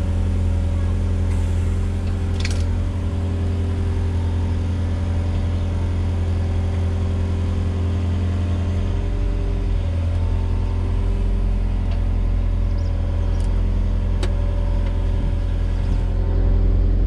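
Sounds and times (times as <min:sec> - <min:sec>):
diesel excavator engine running: 0:00.0 - 0:17.0.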